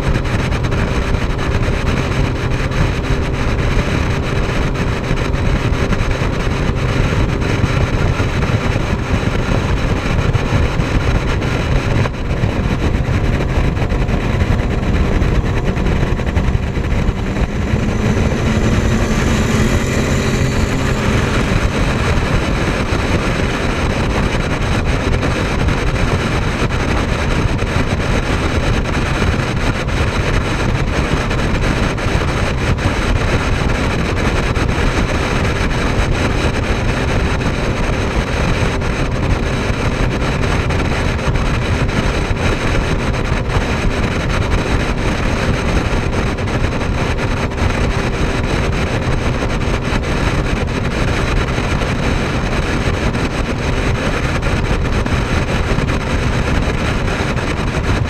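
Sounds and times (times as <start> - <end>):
low engine and wind rumble: 0.0 - 58.0
speedboat engine passing: 0.0 - 58.0.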